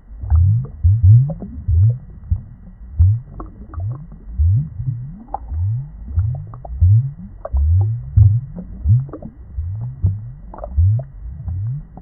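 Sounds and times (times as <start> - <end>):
underwater bubbling and gurgling: 0.0 - 12.0
bubbles clicking: 0.2 - 12.0.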